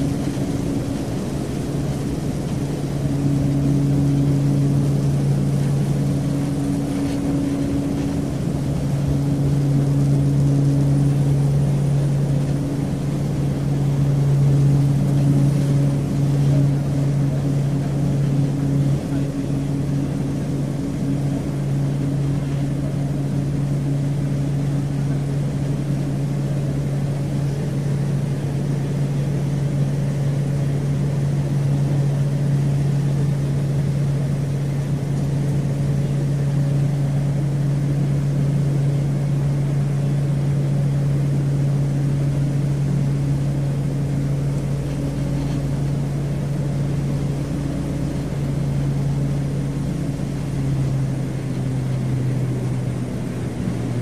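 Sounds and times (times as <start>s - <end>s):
airplane engine hum: 0.0s - 54.0s.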